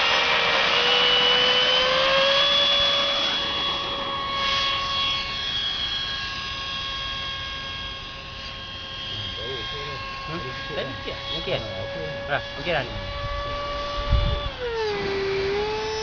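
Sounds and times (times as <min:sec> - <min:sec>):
model airplane motor whine: 0:00.0 - 0:16.0.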